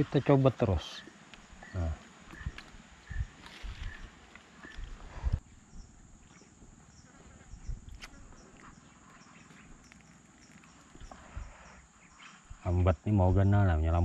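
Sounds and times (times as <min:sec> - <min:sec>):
faint regular chirps: 0:00.8 - 0:13.0.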